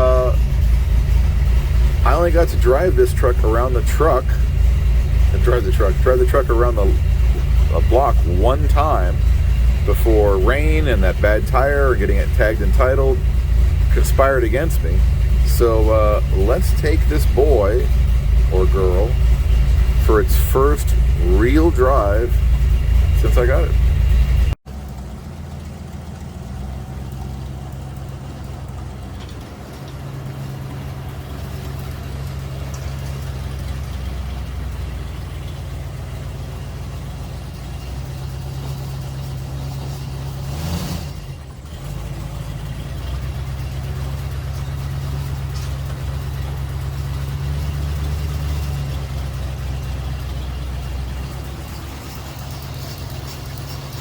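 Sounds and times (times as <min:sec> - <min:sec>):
pickup truck engine running: 0:00.0 - 0:54.0.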